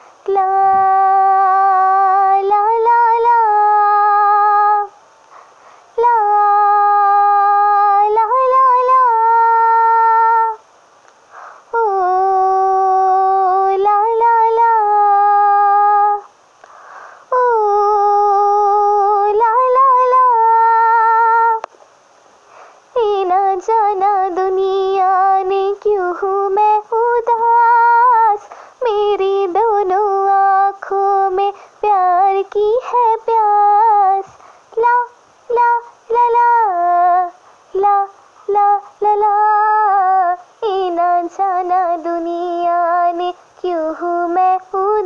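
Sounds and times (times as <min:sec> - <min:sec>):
girl singing wordless melody: 0:00.0 - 0:21.7, 0:22.5 - 0:45.0.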